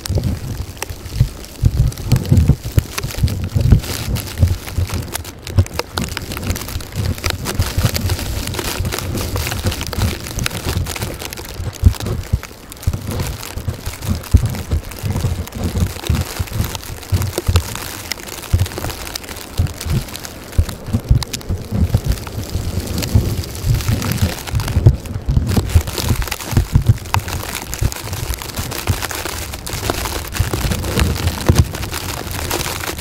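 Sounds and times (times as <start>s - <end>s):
crackling: 0.0s - 33.0s
wind gusting over microphone: 0.0s - 33.0s.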